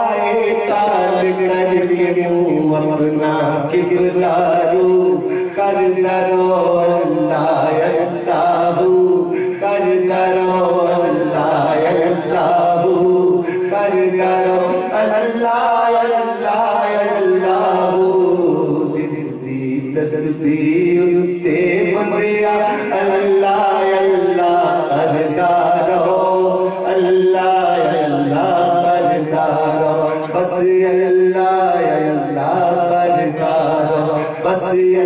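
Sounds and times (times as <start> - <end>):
man singing unaccompanied: 0.0 - 35.0.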